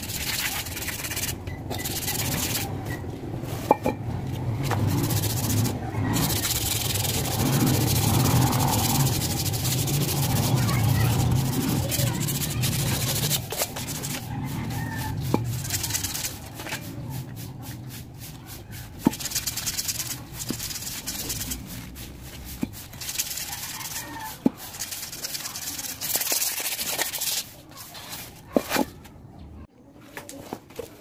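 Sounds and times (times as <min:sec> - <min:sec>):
sandpaper rasping on metal: 0:00.0 - 0:03.0, 0:04.6 - 0:28.8.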